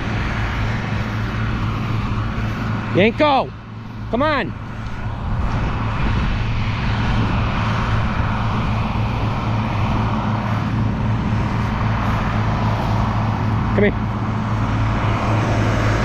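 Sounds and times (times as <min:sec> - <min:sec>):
tractor diesel engine droning: 0:00.0 - 0:16.0.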